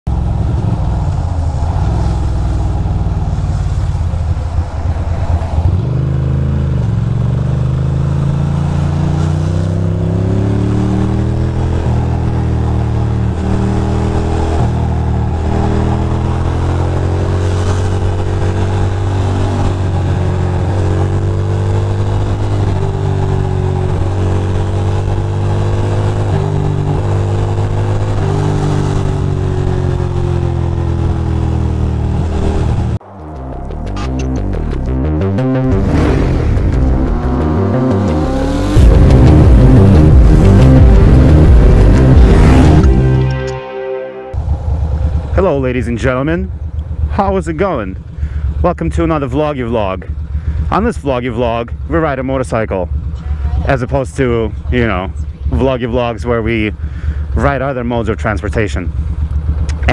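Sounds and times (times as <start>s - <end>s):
motorcycle engine accelerating: 0.0s - 43.6s, 44.3s - 59.9s.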